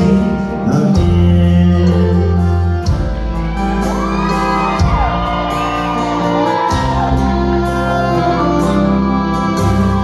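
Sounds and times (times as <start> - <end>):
live country band playing: 0.0 - 10.0.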